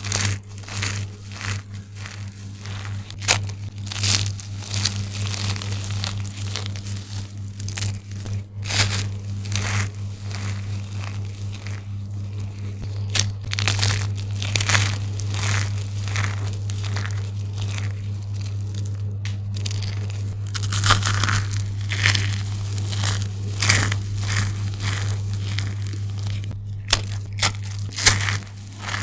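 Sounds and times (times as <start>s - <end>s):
soap crunching in hands: 0.0s - 29.0s
steady low hum: 0.0s - 29.0s.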